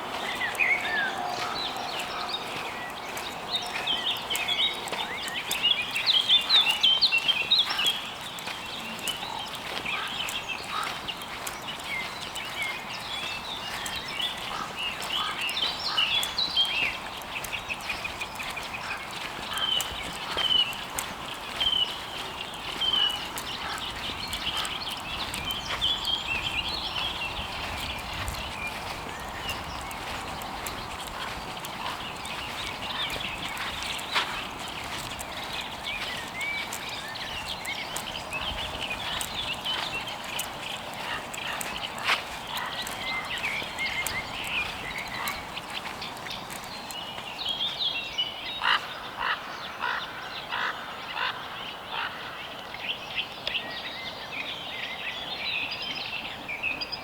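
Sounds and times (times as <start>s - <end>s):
chirping animal calls: 0.0s - 47.2s
footsteps on dry leaves: 0.0s - 48.8s.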